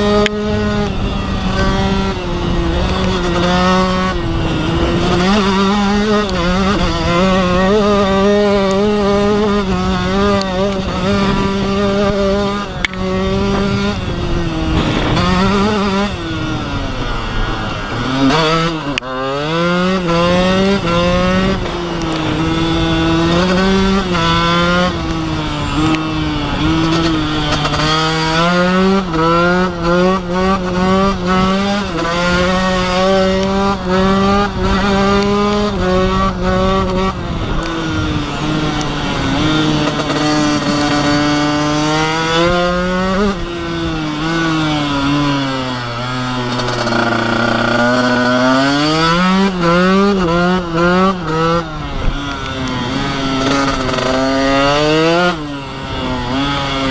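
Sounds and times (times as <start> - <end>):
wind on microphone: 0.0 - 18.9, 20.0 - 56.9
two-stroke engine at high revs: 0.0 - 56.9.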